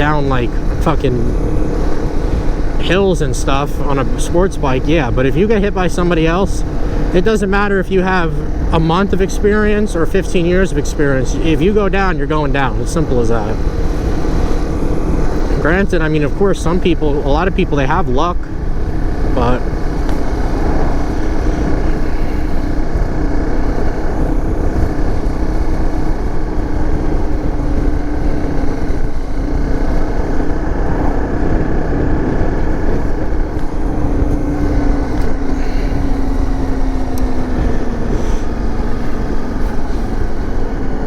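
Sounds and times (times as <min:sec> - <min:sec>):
dirt bike engine running: 0:00.0 - 0:41.0
wind and road rush: 0:00.0 - 0:41.0.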